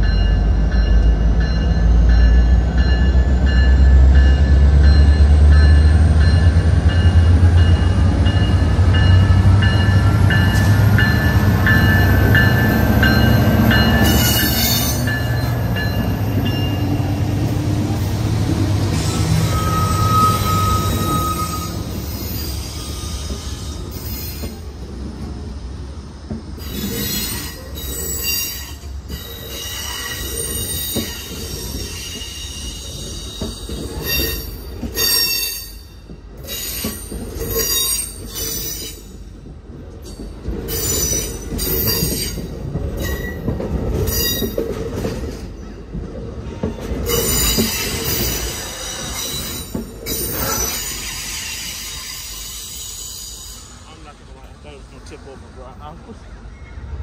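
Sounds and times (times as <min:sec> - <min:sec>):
train wheels squealing: 0:00.0 - 0:16.9, 0:18.9 - 0:24.7, 0:26.6 - 0:39.2, 0:40.0 - 0:44.7, 0:46.6 - 0:54.0
diesel locomotive engine rumble: 0:00.0 - 0:57.0
train rumbling on rails: 0:00.0 - 0:57.0.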